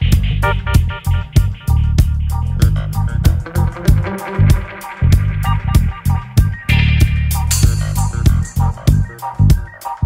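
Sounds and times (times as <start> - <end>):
dub reggae music: 0.0 - 10.0.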